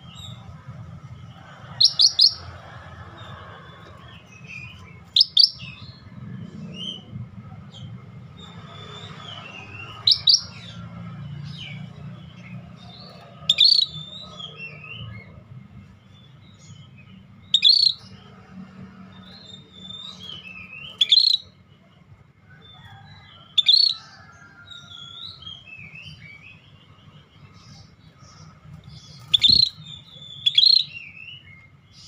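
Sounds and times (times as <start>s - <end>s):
bird chirps and twittering: 0.0s - 32.0s.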